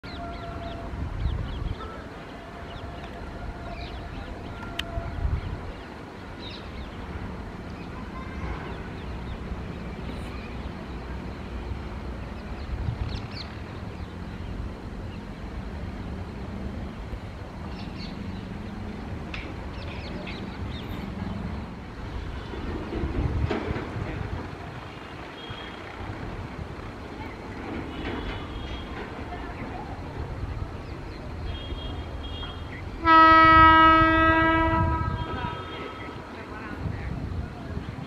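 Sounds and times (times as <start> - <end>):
train rumbling along track: 0.0 - 38.0.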